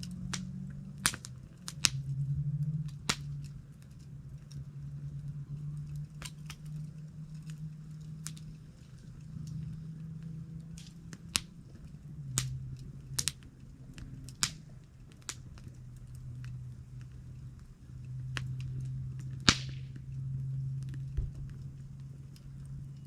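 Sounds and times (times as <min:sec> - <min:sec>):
campfire crackling and popping: 0:00.0 - 0:23.0
steady low hum: 0:00.0 - 0:23.0.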